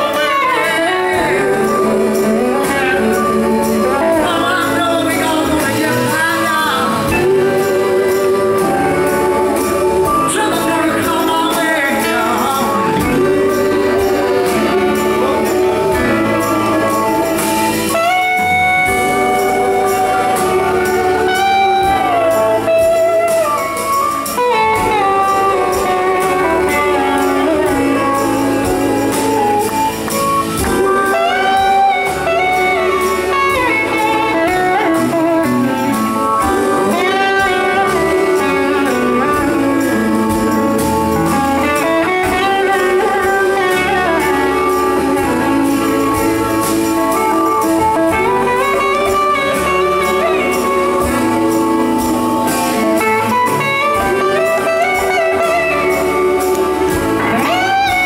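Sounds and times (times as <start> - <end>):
electric guitar gliding lines: 0.0 - 58.0
live rock band playing: 0.0 - 58.0.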